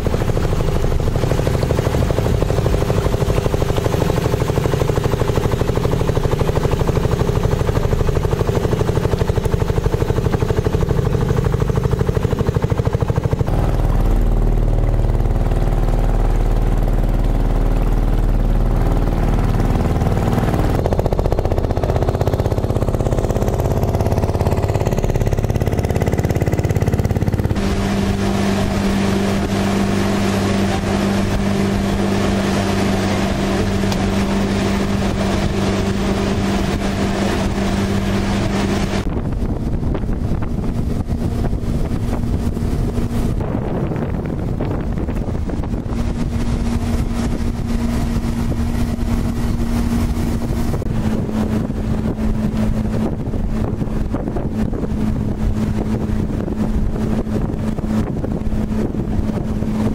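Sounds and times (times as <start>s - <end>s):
boat motor running: 0.0s - 59.9s
wind and water rushing: 0.0s - 59.9s.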